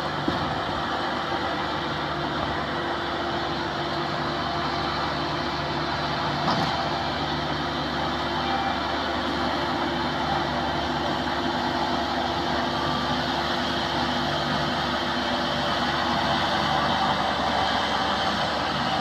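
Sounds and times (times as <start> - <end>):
combine harvester engine droning: 0.0 - 19.0.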